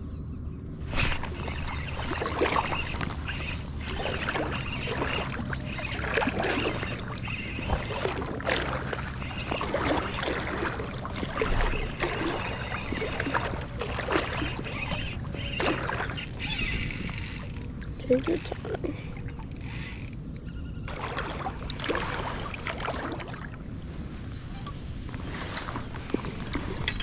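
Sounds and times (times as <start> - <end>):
water splashing and sloshing: 0.8 - 27.0.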